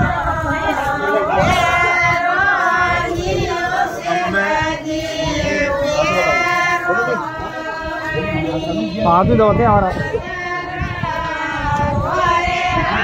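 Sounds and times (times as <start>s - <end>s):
women singing held notes: 0.0s - 9.2s, 9.8s - 13.0s.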